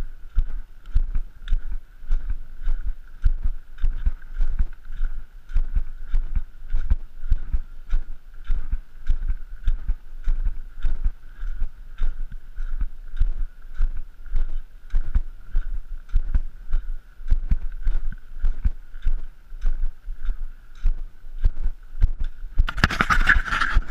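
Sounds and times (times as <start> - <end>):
footsteps on gravelly trail: 0.0 - 23.9.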